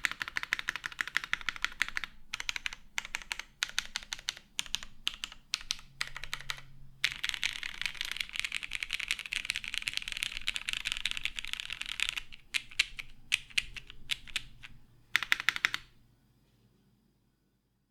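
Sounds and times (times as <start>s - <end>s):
typing on mechanical keyboard: 0.0s - 15.9s.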